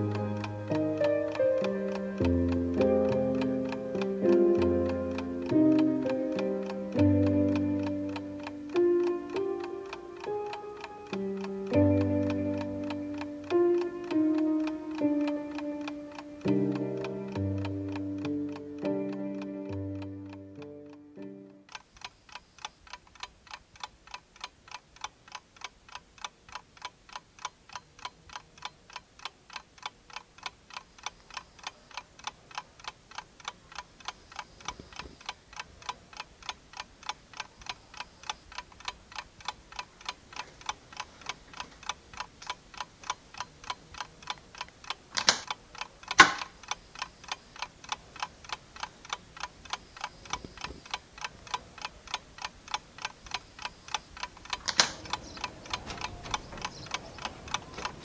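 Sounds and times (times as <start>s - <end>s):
clock ticking quickly: 0.0s - 58.0s.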